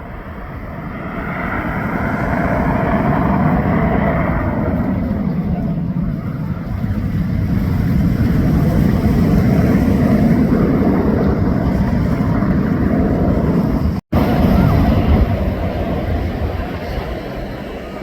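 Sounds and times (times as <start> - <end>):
jet engine deep rumble: 0.0 - 18.0.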